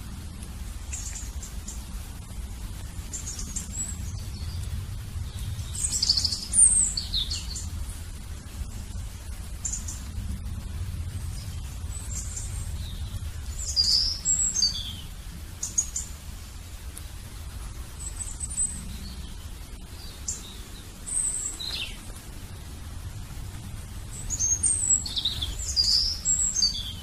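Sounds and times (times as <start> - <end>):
low steady rumble: 0.0 - 27.0
birds chirping: 0.6 - 27.0.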